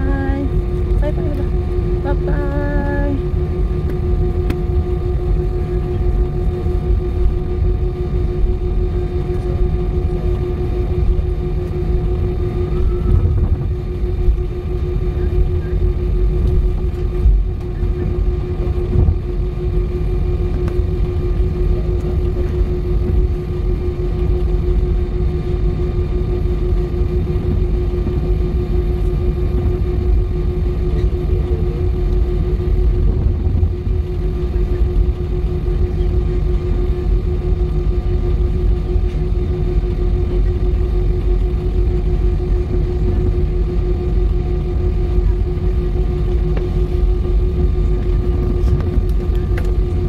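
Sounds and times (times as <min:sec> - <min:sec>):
airliner cabin rumble: 0:00.0 - 0:50.0
constant cabin hum: 0:00.0 - 0:50.0.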